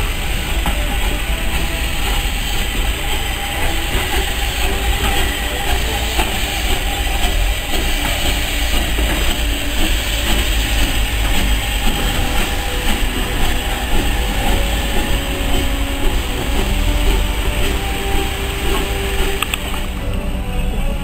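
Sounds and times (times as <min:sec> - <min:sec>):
steam train rumbling past: 0:00.0 - 0:21.0.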